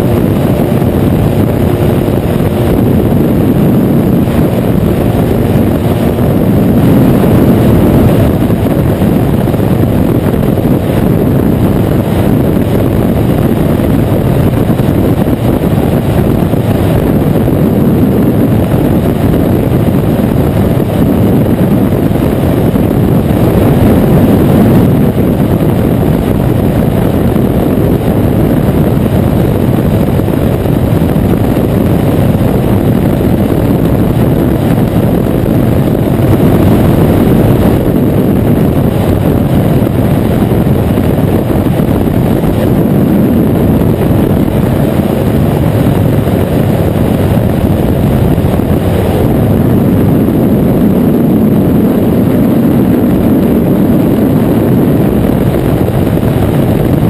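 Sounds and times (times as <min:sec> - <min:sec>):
engine and propeller drone: 0:00.0 - 0:57.0
wind rushing over microphone: 0:00.0 - 0:57.0.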